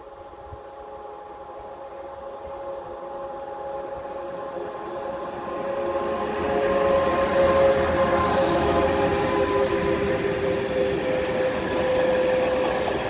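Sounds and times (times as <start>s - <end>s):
electric locomotive whine: 0.0s - 13.0s.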